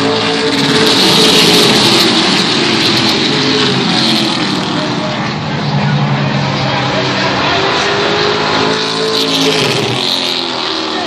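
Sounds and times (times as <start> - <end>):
race truck engines: 0.0 - 11.0.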